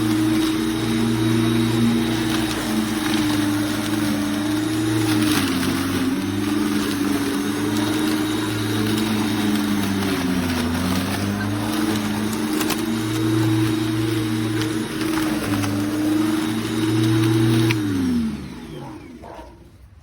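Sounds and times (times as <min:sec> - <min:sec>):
electric lawn mower motor running: 0:00.0 - 0:20.0.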